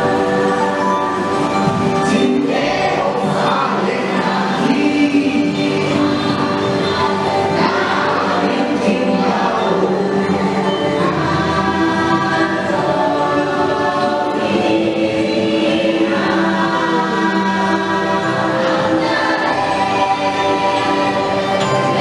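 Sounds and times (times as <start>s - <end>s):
choir chanting over music: 0.0s - 22.0s.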